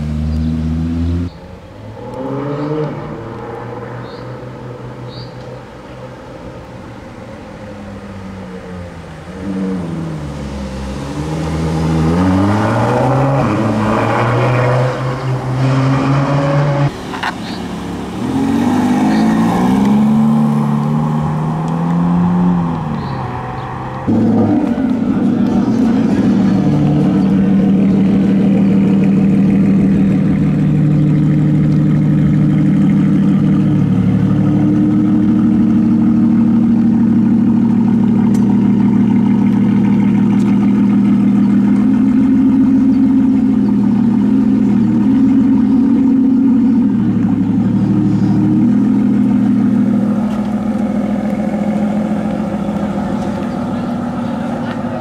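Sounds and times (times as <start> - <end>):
car engine revving: 0.0 - 6.0, 7.8 - 55.0.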